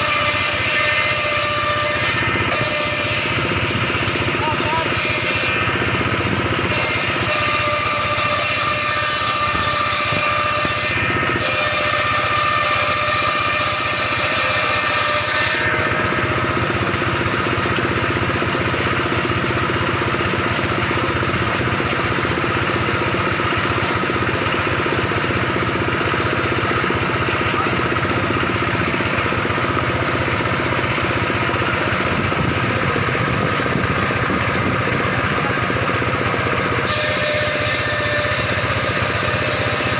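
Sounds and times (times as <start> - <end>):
circular saw ripping timber: 0.0 - 39.9.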